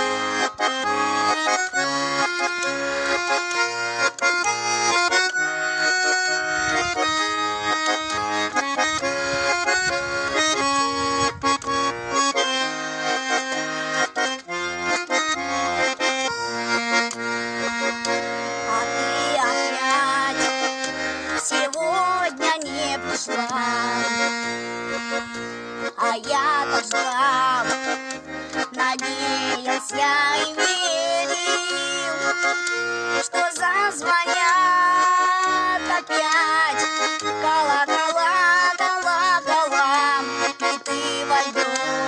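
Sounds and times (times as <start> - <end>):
button accordion playing folk melody: 0.0 - 42.0.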